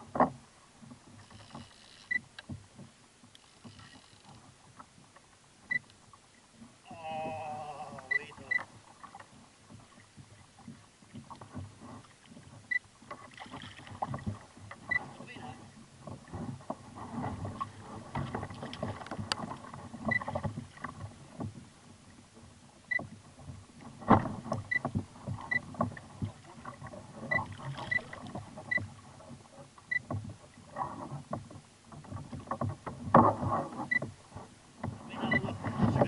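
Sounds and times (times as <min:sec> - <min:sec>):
water splashing against kayak hull: 0:00.0 - 0:36.0.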